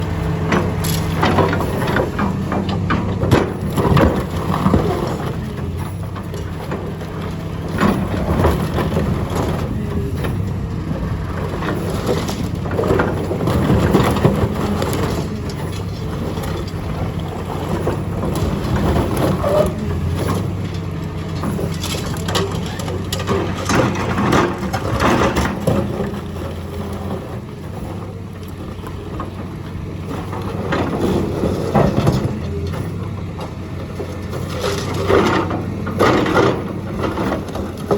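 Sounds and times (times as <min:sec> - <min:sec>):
excavator engine running: 0:00.0 - 0:37.9
concrete cracking and crunching: 0:00.3 - 0:37.9.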